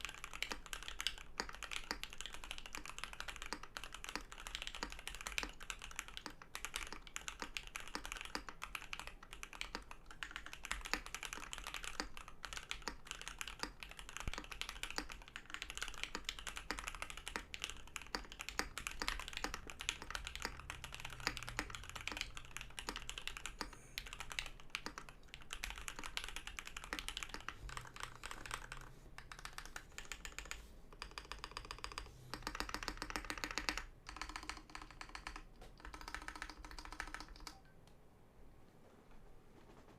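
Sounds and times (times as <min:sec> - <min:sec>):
mechanical keyboard typing: 0:00.0 - 0:37.7.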